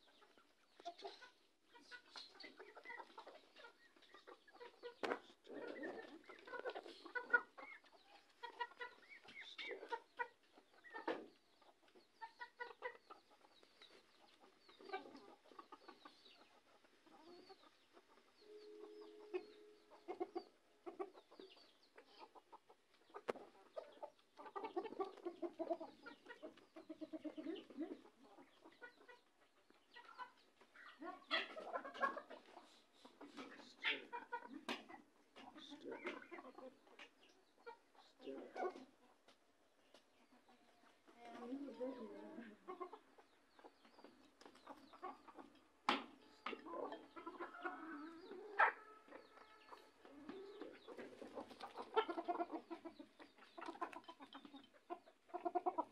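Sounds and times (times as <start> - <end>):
chickens clucking: 0.0 - 55.9.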